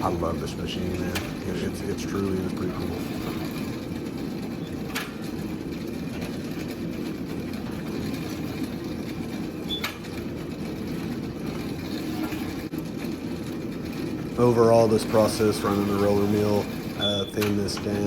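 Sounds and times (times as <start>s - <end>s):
roller mill running: 0.0s - 18.0s.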